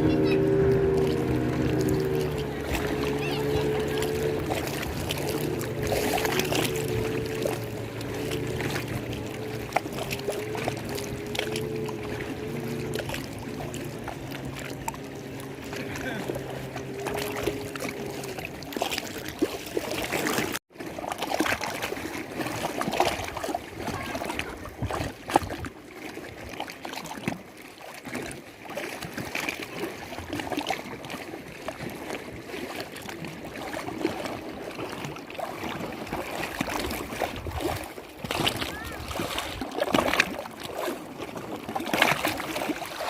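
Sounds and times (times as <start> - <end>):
lake water lapping and splashing: 0.0 - 43.0.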